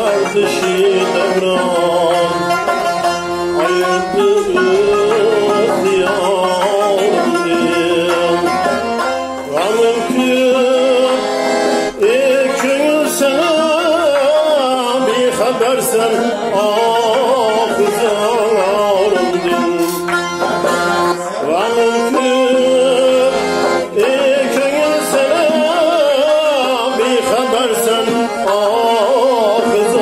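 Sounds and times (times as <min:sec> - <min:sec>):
long-necked lute strumming: 0:00.0 - 0:30.0
man singing folk melody: 0:00.0 - 0:30.0.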